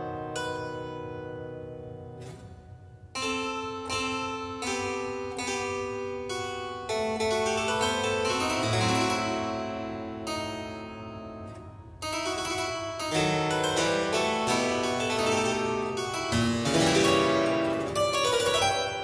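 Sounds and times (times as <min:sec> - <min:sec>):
harpsichord chords: 0:03.1 - 0:19.0.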